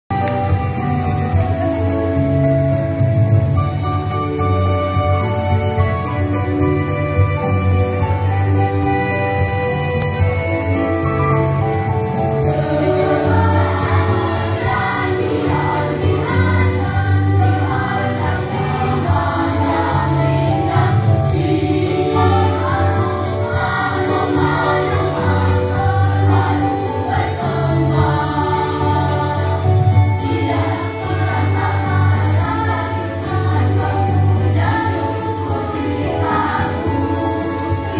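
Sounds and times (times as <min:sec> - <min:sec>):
instrumental accompaniment with bass: 0:00.1 - 0:37.9
children's choir singing: 0:03.0 - 0:37.9.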